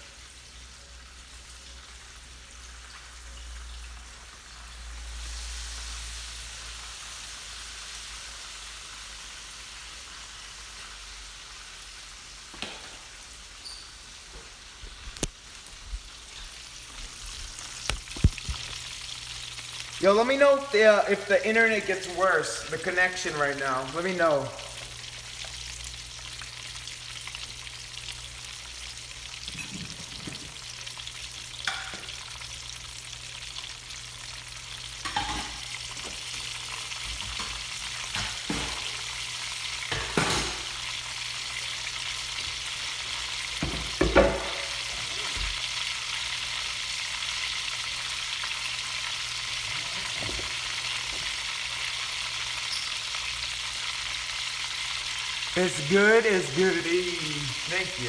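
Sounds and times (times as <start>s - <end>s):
chicken frying in oil: 0.0s - 58.0s.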